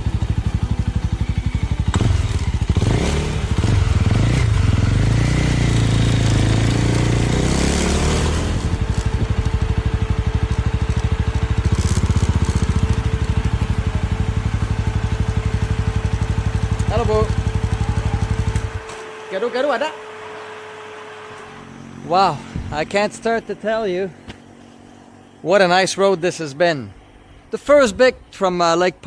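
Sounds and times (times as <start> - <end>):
motorcycle engine running: 0.0 - 28.6
louder engine sound: 0.0 - 29.0.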